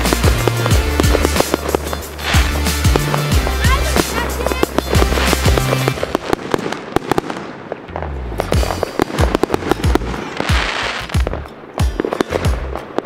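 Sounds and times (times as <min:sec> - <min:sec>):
background music with bass: 0:00.0 - 0:06.4, 0:07.9 - 0:13.0
fireworks hissing: 0:00.0 - 0:07.8, 0:08.4 - 0:11.4
fireworks banging and crackling: 0:00.0 - 0:13.0.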